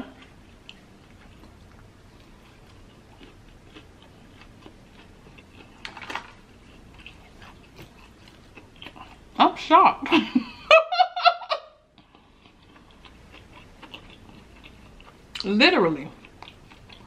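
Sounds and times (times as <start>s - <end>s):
chewing crispy food: 0.0s - 9.6s, 11.8s - 17.0s.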